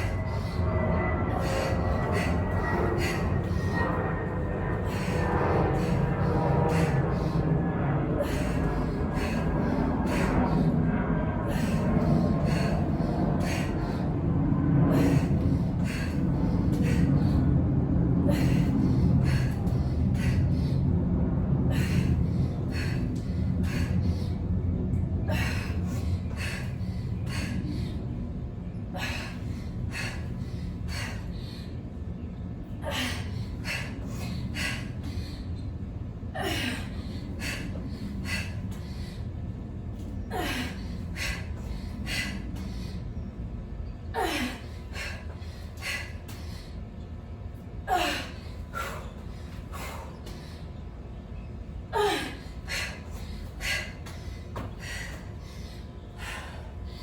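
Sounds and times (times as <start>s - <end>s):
woman breathing hard: 0.0s - 57.0s.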